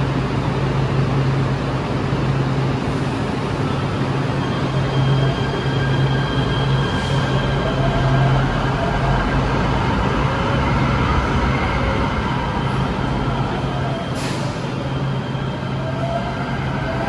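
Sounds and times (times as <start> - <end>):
train low hum: 0.0 - 17.0.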